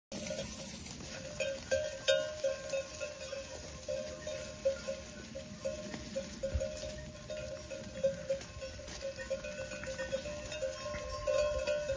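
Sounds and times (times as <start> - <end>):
sheep bells clanking: 0.1 - 11.9.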